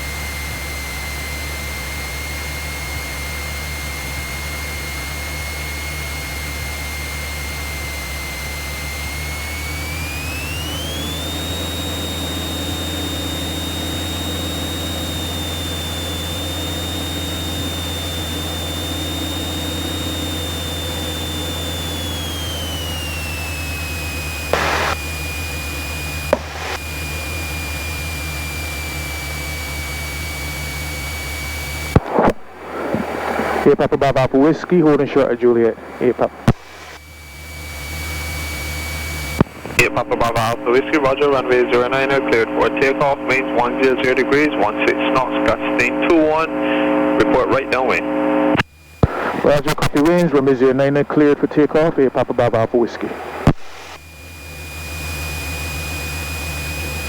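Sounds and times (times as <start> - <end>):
aircraft engine hum and whine: 0.0 - 57.0.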